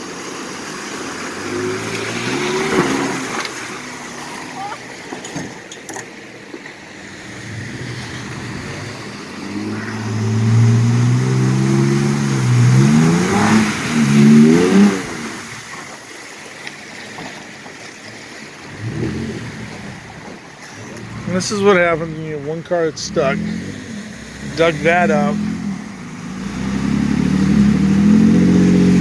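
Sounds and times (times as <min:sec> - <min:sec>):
off-road vehicle engine revving: 0:00.3 - 0:05.4, 0:06.7 - 0:15.8, 0:18.4 - 0:29.0.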